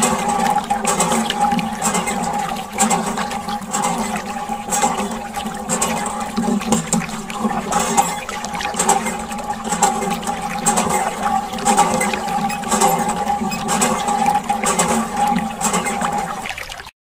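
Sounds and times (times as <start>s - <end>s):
water pouring and splashing: 0.0s - 16.9s.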